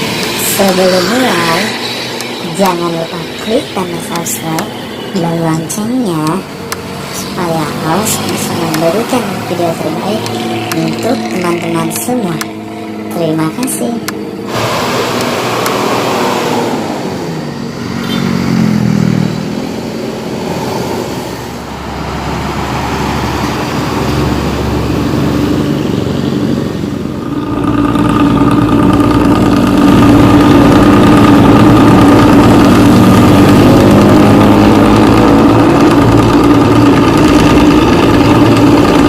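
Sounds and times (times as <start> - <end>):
diesel bus engine rumbling: 0.0 - 39.0.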